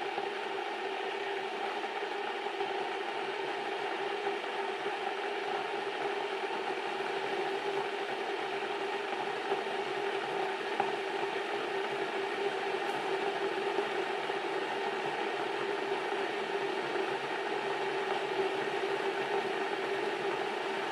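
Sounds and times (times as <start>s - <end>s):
electric kettle heating water: 0.0s - 20.9s.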